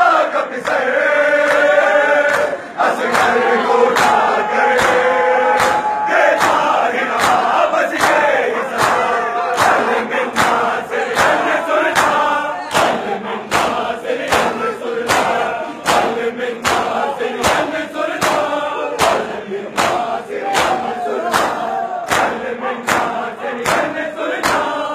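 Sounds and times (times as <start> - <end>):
crowd chanting in unison: 0.0 - 24.9
hands slapping chests: 1.4 - 1.7, 2.3 - 24.8.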